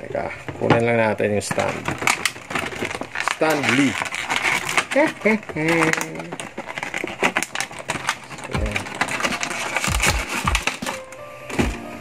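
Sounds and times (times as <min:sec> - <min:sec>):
plastic packaging crinkling: 0:01.0 - 0:11.9.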